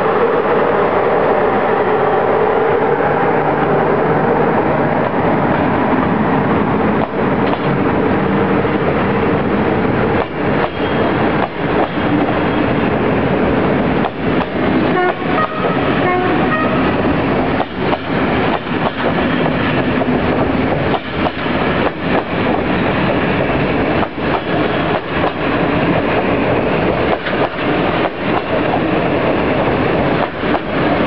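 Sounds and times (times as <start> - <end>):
train rumble: 0.0 - 31.0
train wheels clattering on rails: 5.6 - 31.0.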